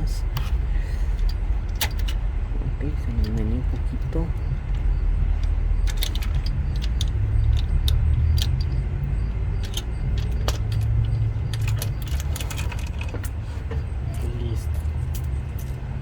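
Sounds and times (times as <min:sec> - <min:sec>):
steady low rumble: 0:00.0 - 0:16.0
metallic clinks and rattles: 0:00.1 - 0:16.0.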